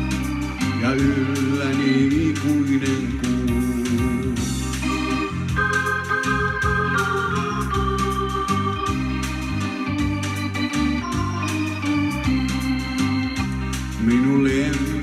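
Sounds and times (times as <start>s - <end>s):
electronic organ melody with beat: 0.0s - 15.0s.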